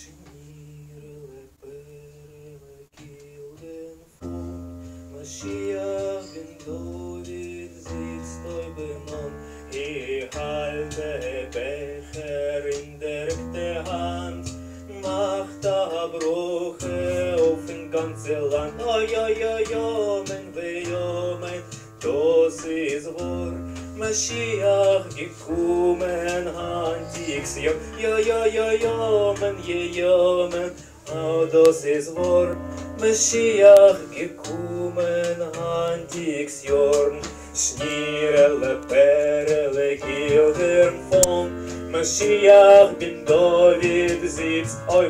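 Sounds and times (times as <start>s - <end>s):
keyboard chords and melody: 4.2s - 45.0s.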